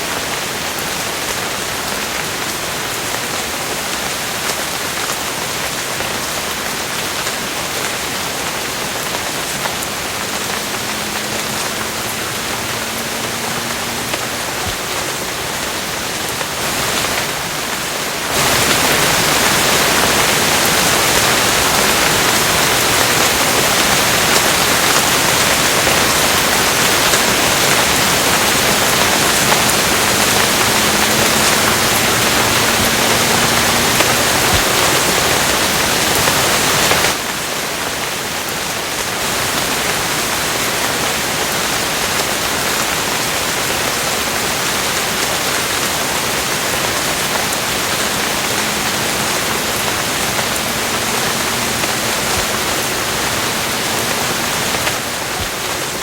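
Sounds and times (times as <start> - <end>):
dense rain hiss: 0.0 - 56.0.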